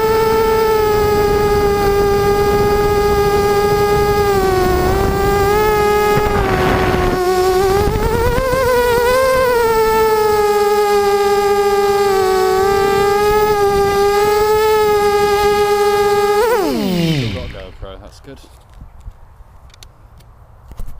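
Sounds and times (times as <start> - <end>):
drone motors whining: 0.0 - 18.2.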